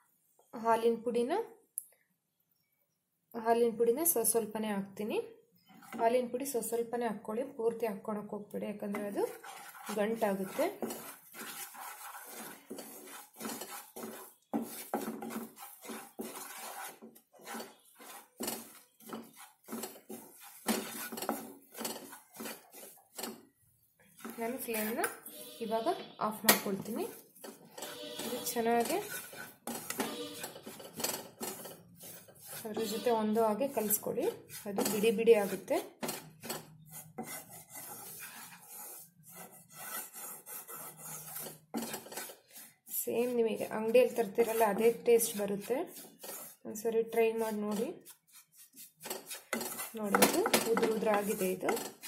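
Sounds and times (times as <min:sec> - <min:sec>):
wooden spatula scraping a pan: 0:05.6 - 0:06.8, 0:08.7 - 0:52.0.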